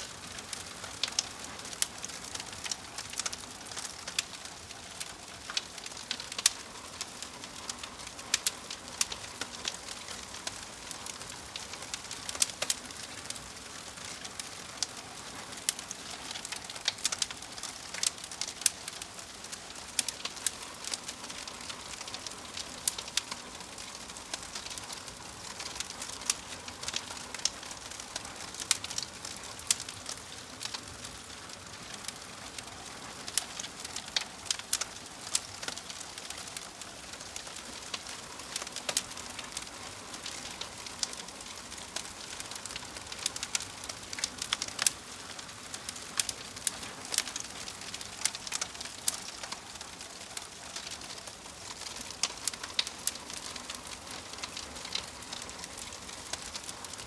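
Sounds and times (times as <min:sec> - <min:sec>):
log fire crackling and popping: 0:00.0 - 0:57.0.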